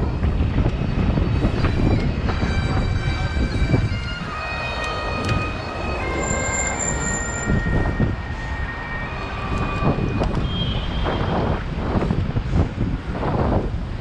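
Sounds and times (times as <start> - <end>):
road and traffic noise: 0.0 - 14.0
wind on microphone: 0.0 - 14.0
high whining tones: 0.1 - 11.8.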